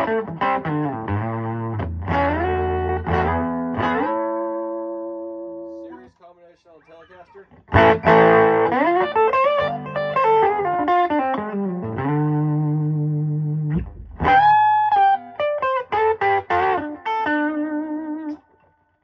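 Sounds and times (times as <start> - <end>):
overdriven electric guitar: 0.0 - 6.0, 7.5 - 18.8.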